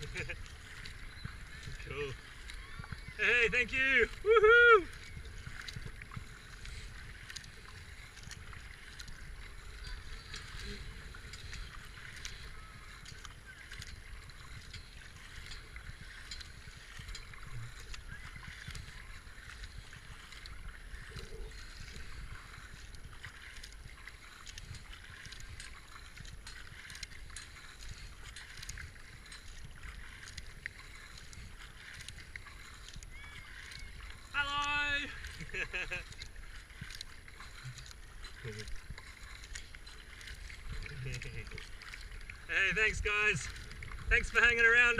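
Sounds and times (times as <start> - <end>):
paddle splashing into water: 0.0 - 44.9
water drips and trickles: 0.0 - 44.9.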